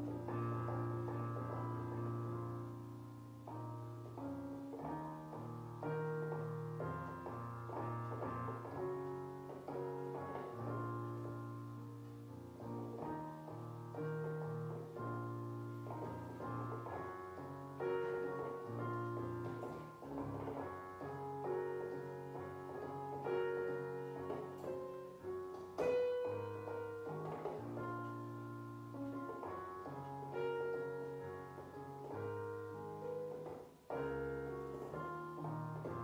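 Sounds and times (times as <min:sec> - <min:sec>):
slow piano chords: 0:00.0 - 0:36.0.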